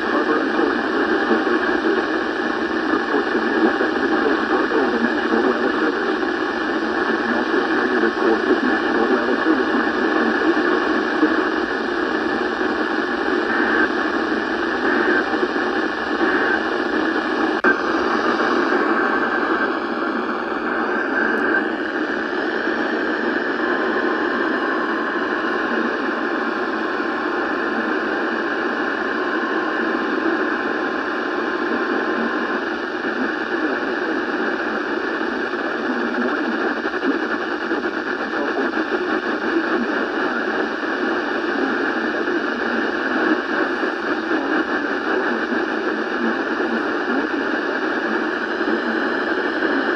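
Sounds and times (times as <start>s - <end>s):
radio static hiss: 0.0s - 49.9s.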